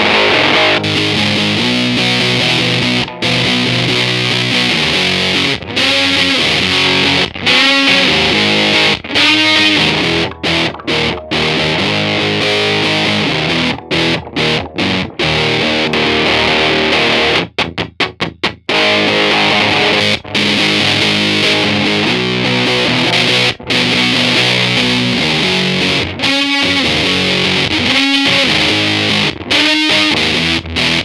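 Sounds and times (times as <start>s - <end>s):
fuzz distorted electric guitar chords: 0.0s - 31.0s.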